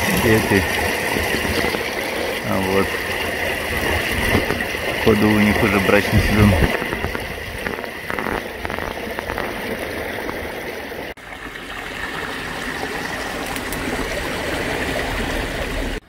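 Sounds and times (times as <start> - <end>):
water splashing over stones: 0.0 - 16.0.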